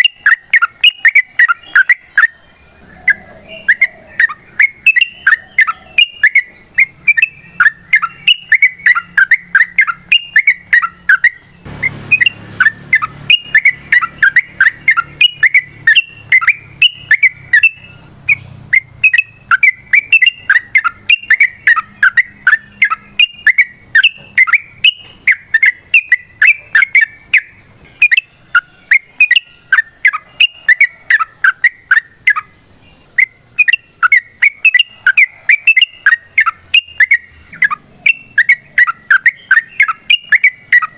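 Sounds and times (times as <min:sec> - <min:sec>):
bulbul singing fast chattering notes: 0:00.0 - 0:40.9.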